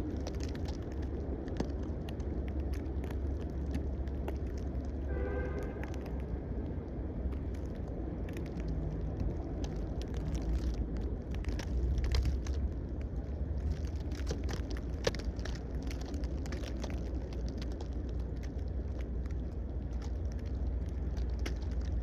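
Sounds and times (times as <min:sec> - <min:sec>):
small clicks and crackles: 0:00.0 - 0:22.0
wind rumbling on microphone: 0:00.0 - 0:22.0.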